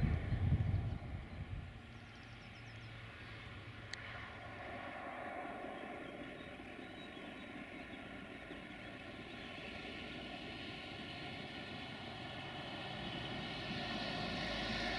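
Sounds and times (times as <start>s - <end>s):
locomotive engine hum: 0.0s - 14.9s.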